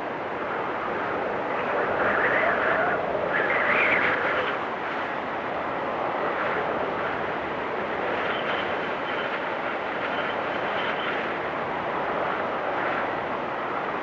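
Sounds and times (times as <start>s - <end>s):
blizzard wind rushing: 0.0s - 14.0s.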